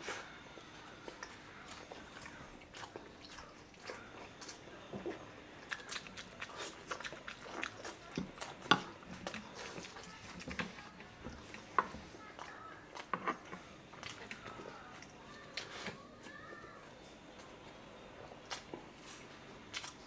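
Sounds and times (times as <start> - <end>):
biting and chewing food: 0.0 - 17.6, 18.3 - 20.0.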